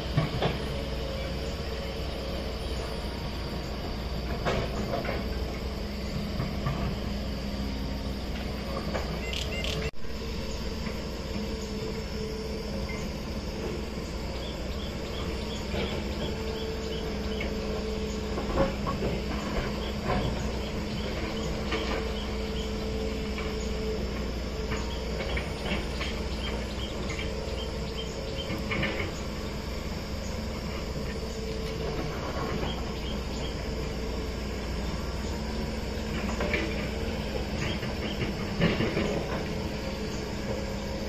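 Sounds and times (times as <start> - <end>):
diesel engines humming: 0.0 - 41.0.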